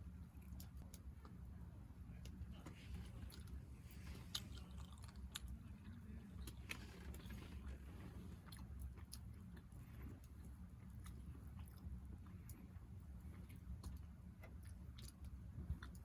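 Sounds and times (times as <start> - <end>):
chewing and biting: 2.2 - 16.0.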